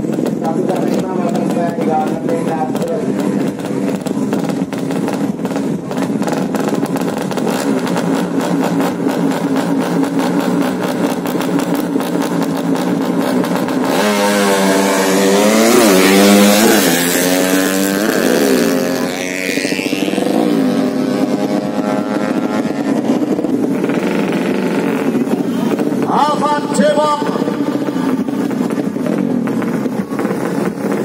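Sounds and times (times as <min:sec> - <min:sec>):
motorcycle engines revving and accelerating: 0:00.0 - 0:31.0.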